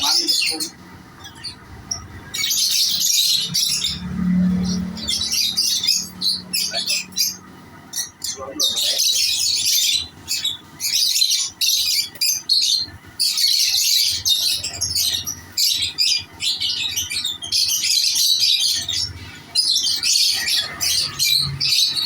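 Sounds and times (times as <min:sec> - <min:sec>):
lovebirds chattering and squawking: 0:00.0 - 0:22.0.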